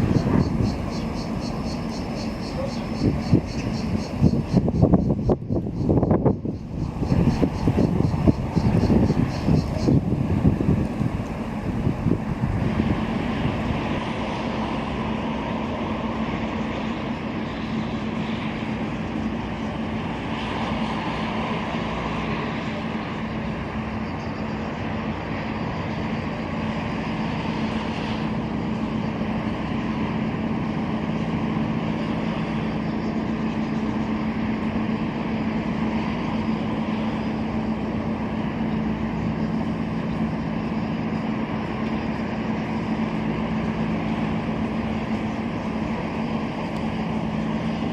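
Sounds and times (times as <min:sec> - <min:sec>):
ship engines droning: 0:00.0 - 0:47.9
wind and water noise: 0:00.0 - 0:47.9.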